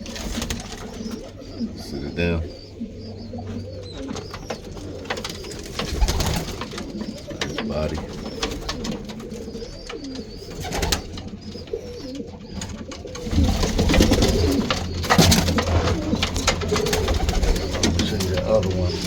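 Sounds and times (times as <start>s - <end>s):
pigeons cooing: 0.0s - 19.0s
clicks and rustles: 3.4s - 19.0s.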